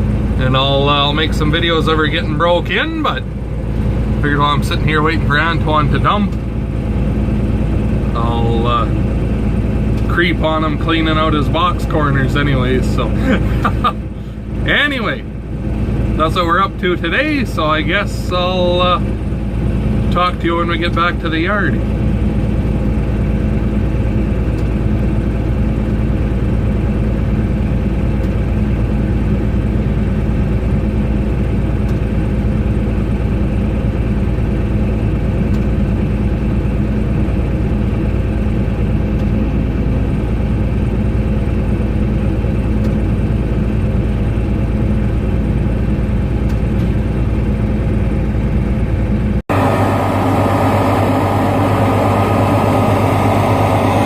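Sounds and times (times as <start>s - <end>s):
deep engine drone: 0.0s - 54.0s
truck engine idling: 0.0s - 54.0s.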